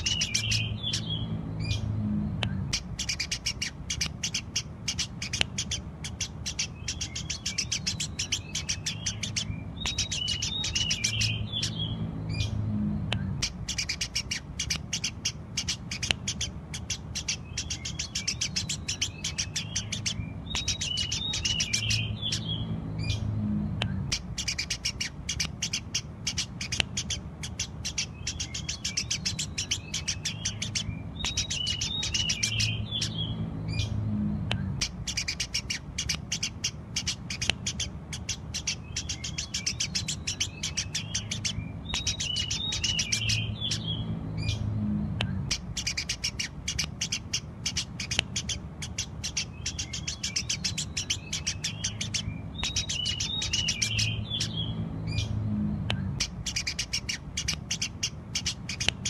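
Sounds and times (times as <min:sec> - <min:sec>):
sparrow chirping: 0:00.0 - 0:59.0
sparrow twittering: 0:00.0 - 0:59.0.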